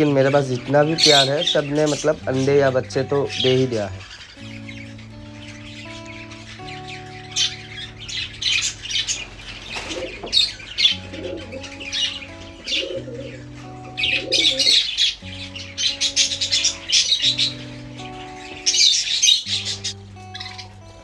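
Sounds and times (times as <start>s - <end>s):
background music with held notes: 0.0s - 21.0s
budgerigars chattering: 0.0s - 21.0s.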